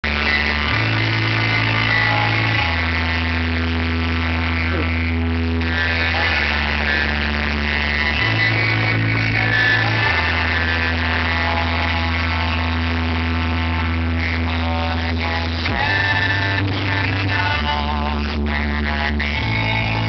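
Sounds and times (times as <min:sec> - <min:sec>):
bass-heavy music from car speakers: 0:00.0 - 0:20.0.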